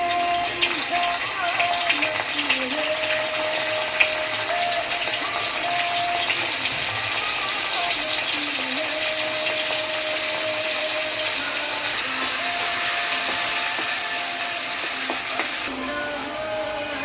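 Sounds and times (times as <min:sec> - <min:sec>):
soft background music: 0:00.0 - 0:17.0
steady hiss with crackles: 0:00.0 - 0:17.0.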